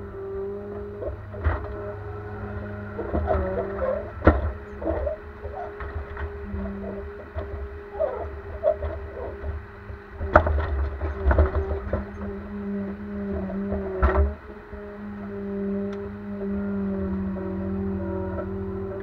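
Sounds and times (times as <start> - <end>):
engine and hydraulics whining drone: 0.0 - 19.0.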